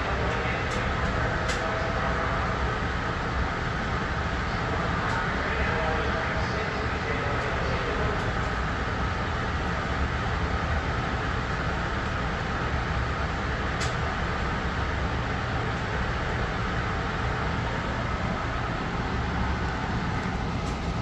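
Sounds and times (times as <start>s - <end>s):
faint steady whine: 0.0s - 21.0s
train wheels rumbling on rail: 0.0s - 21.0s.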